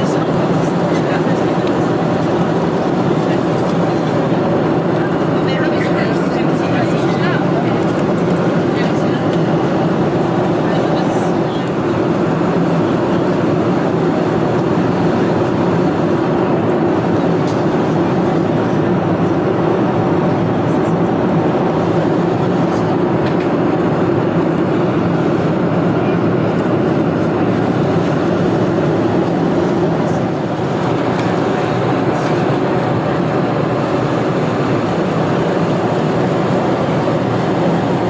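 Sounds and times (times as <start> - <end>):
airflow rushing: 0.0 - 38.0
jet engine noise: 0.0 - 38.0.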